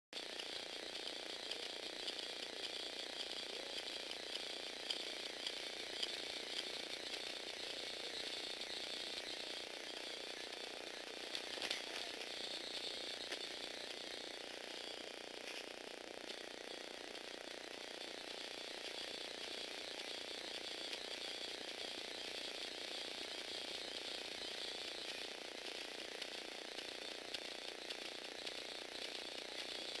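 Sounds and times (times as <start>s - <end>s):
mechanism ticking: 0.2s - 30.0s
small motor and gears whirring: 0.2s - 30.0s.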